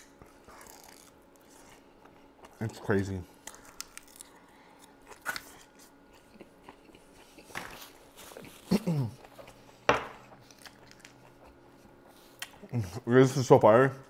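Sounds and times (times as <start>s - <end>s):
chewing and crunching food: 0.0s - 13.0s.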